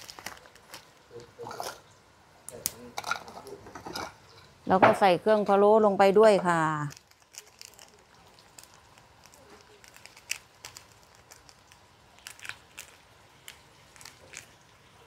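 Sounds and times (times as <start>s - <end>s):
fat crackling and popping in a wok: 0.0s - 15.0s.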